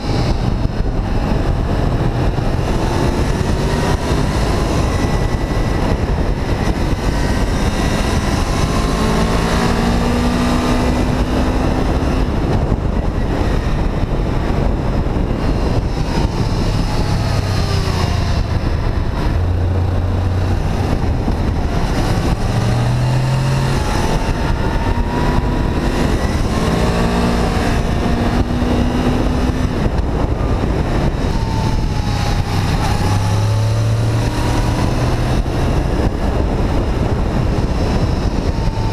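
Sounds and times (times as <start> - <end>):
motorcycle engine revving: 0.0 - 38.9
wind rush on microphone: 0.0 - 38.9.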